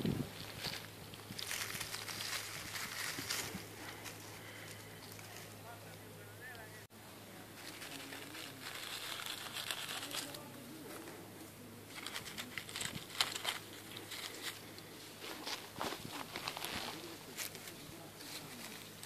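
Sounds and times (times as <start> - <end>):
dry leaves rustling under hand: 0.0 - 6.1, 7.3 - 19.0.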